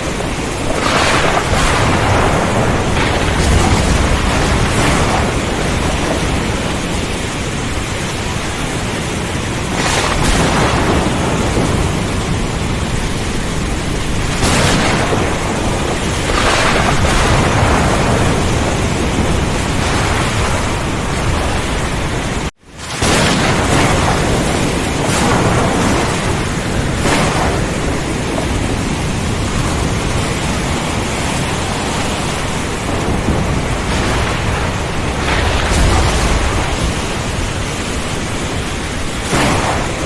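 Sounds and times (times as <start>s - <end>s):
heavy rain pouring: 0.0s - 40.0s
low thunder rumble: 0.0s - 40.0s
thunder cracks: 0.0s - 40.0s.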